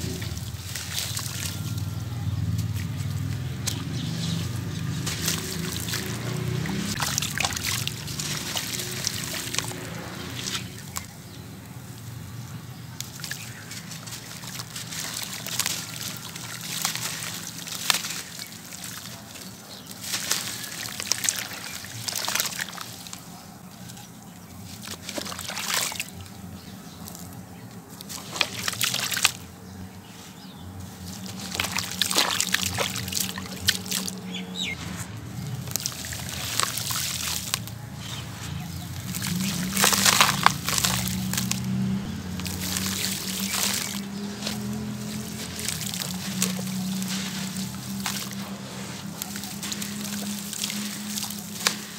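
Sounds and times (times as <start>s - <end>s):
hands squishing wet mud: 0.0s - 51.9s
water dribbling: 0.0s - 51.9s.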